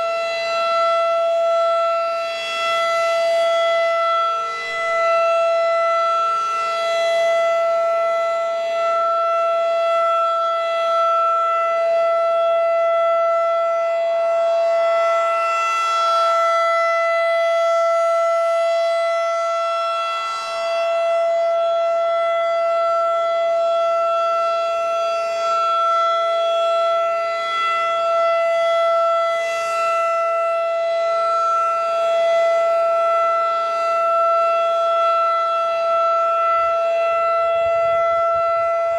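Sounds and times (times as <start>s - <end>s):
siren steady tone: 0.0s - 38.9s.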